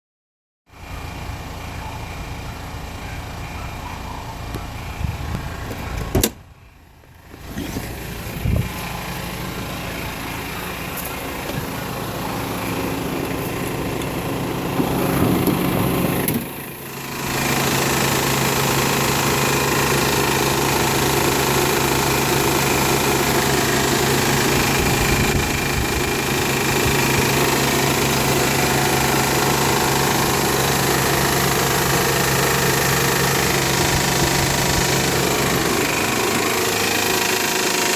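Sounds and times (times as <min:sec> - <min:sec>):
car engine running with rattle: 0:00.7 - 0:37.9.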